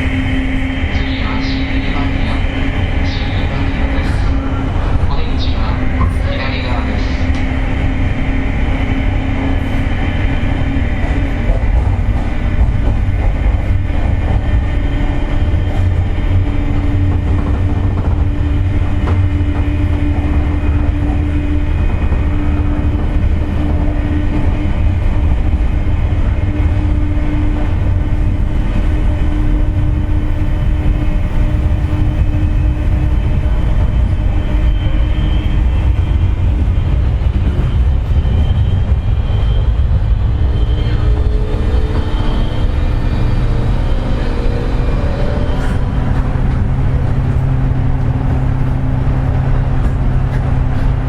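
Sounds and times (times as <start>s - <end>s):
train motor whine: 0.0s - 51.0s
train running rumble: 0.0s - 51.0s.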